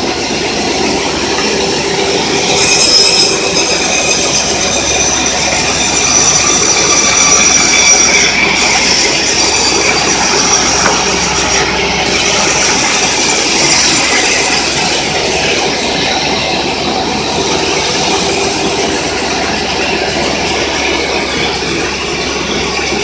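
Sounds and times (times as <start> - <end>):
band sawmill running: 0.0 - 23.0
metallic squeal: 0.0 - 23.0.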